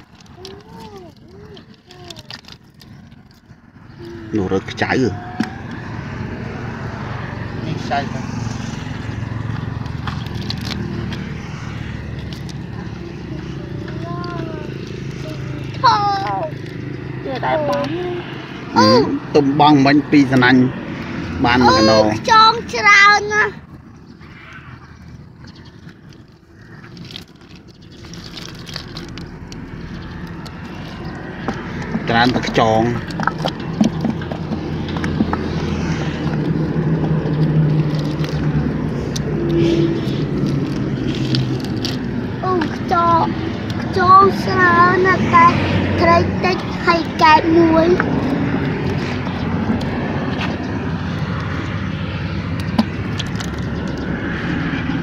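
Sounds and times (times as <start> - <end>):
fishing net clicks and rustles: 0.0 - 6.2, 8.2 - 17.2, 23.6 - 44.5, 45.8 - 55.0
low engine drone: 0.0 - 55.0.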